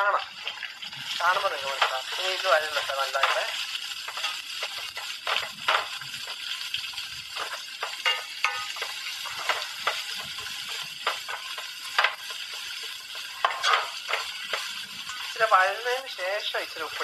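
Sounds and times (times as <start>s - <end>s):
onions sizzling in hot oil: 0.0s - 17.0s
spoon scraping metal pan: 0.4s - 15.5s.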